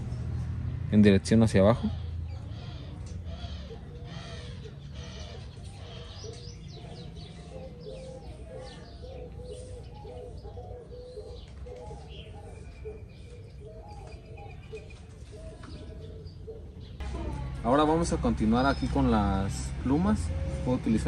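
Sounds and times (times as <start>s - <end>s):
birds calling low repeated notes: 0.0s - 21.0s.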